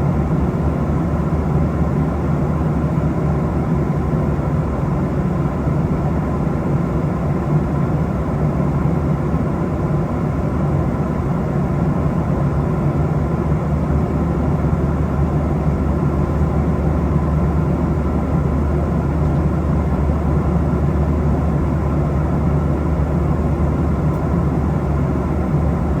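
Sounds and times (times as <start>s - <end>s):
jet airliner cabin drone: 0.0s - 26.0s.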